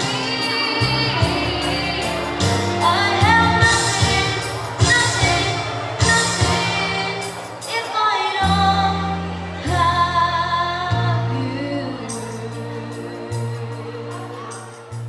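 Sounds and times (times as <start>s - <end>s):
girl singing into microphone: 0.0s - 15.0s
musical accompaniment with bass line: 0.0s - 15.0s.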